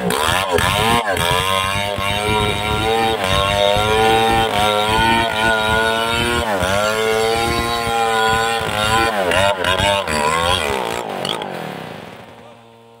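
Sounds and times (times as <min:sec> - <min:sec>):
chainsaw cutting wood: 0:00.0 - 0:12.4.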